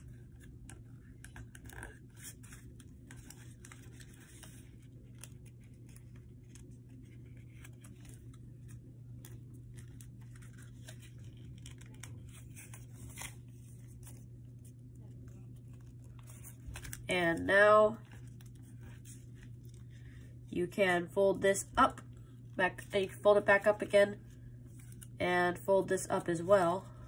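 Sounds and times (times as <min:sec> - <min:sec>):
paper folding and crackling: 0:00.0 - 0:20.4, 0:23.6 - 0:25.2
steady low hum: 0:00.0 - 0:27.0.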